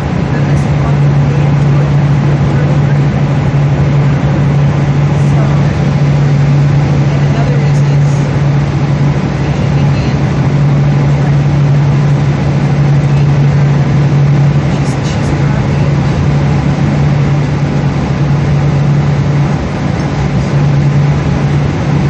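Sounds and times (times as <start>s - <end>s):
airplane cabin engine drone: 0.0s - 22.0s
constant low hum: 0.0s - 22.0s.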